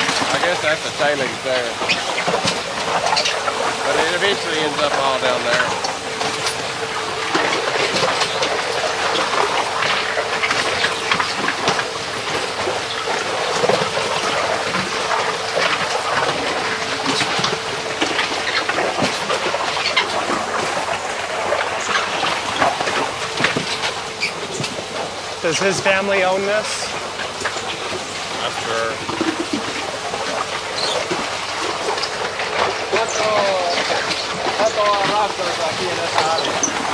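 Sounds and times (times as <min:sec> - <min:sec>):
steady mill hum: 0:00.0 - 0:36.9.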